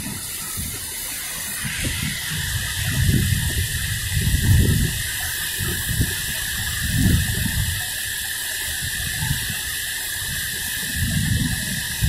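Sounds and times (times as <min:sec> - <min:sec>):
wind buffeting microphone: 0:00.0 - 0:08.0, 0:08.7 - 0:12.0.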